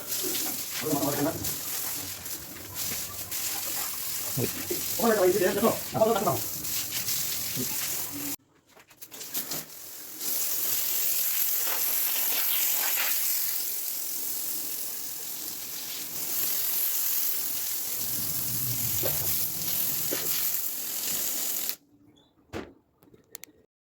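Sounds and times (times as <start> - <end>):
water spraying from hose nozzle: 0.0 - 8.4, 9.0 - 21.8.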